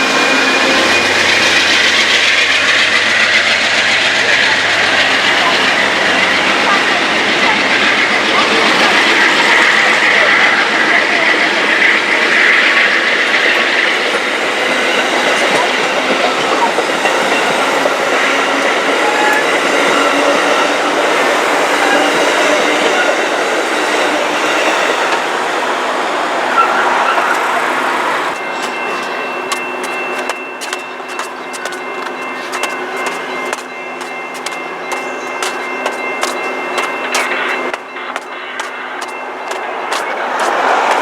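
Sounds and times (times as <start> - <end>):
steady high tone: 0.0 - 41.0
train wheels on rails: 0.0 - 41.0.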